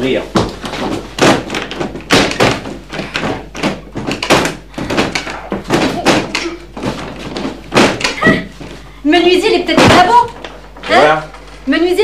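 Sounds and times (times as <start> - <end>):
wooden window banging and rattling: 0.3 - 8.8, 9.5 - 10.8.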